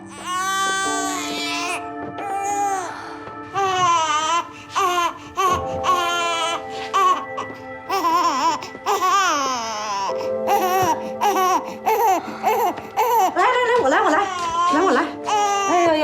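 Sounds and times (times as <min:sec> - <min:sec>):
background music with held notes: 0:00.0 - 0:16.0
newborn baby crying: 0:00.0 - 0:16.0.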